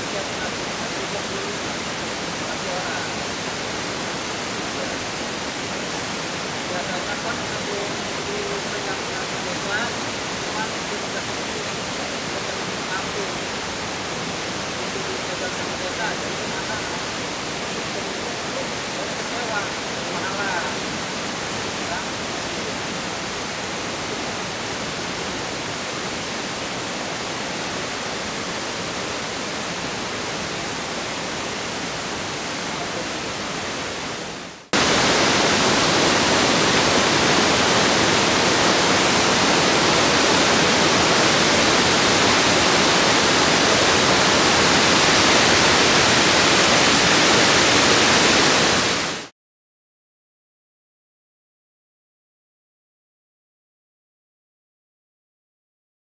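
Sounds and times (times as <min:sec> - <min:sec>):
waterfall and river rushing: 0:00.0 - 0:49.3.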